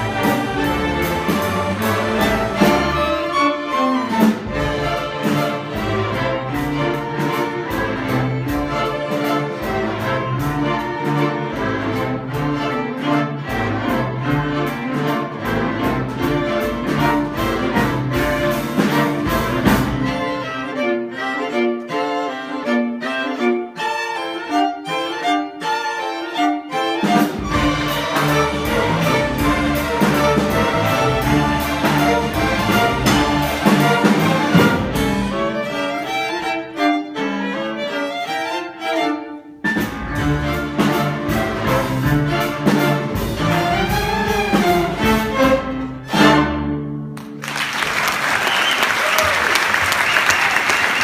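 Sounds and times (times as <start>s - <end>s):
string orchestra playing: 0.0s - 51.0s.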